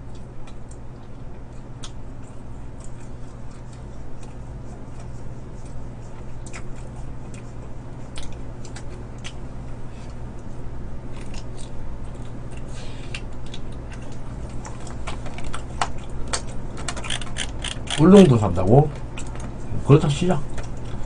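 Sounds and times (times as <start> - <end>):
chewing with wet smacks: 0.0 - 18.3, 18.9 - 19.7, 20.4 - 21.0.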